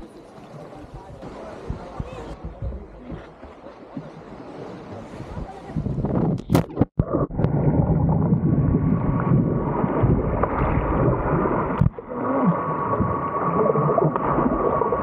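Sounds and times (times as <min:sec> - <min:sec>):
churning underwater gurgling: 0:00.0 - 0:15.0.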